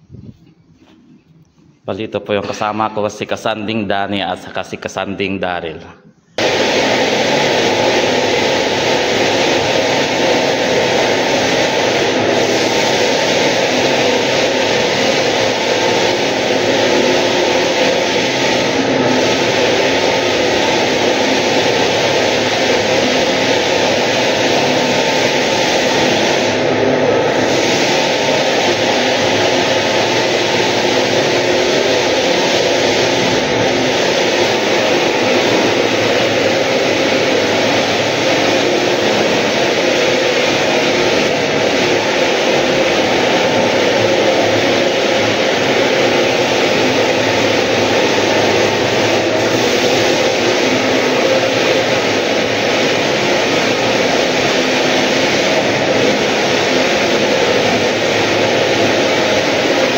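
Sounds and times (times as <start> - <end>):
floor sanding machine running: 6.4 - 59.9.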